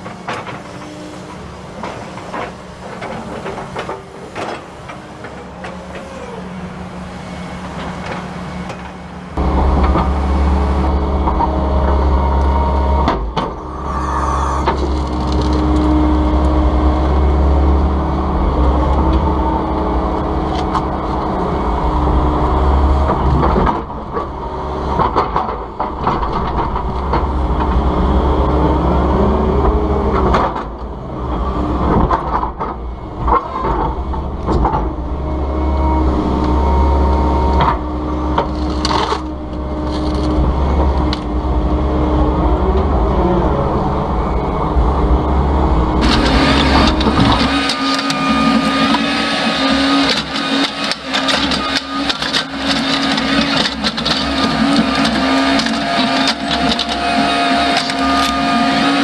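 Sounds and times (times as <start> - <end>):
excavator diesel engine: 0.0 - 59.0
hydraulics working: 0.0 - 59.0.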